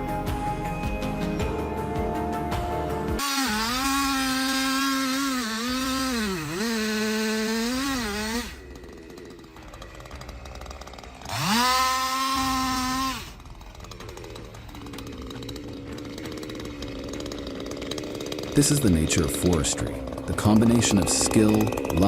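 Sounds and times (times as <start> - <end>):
chainsaw engine revving: 3.1 - 22.0.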